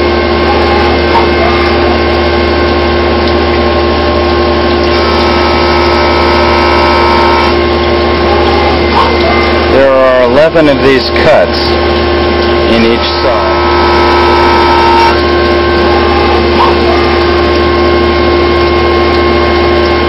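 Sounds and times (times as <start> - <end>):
cnc mill machining: 0.0 - 20.0
high machine whine: 0.0 - 20.0.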